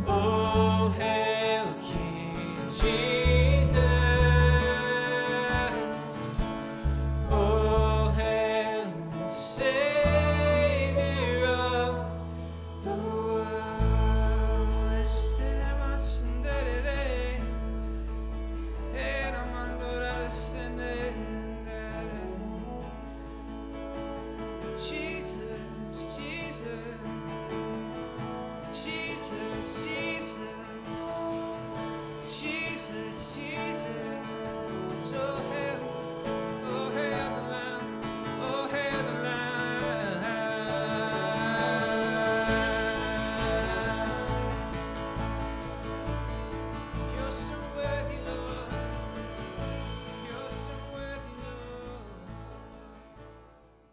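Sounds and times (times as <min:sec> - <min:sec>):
guitar: 0:00.0 - 0:53.9
slow instrumental worship music: 0:00.0 - 0:53.9.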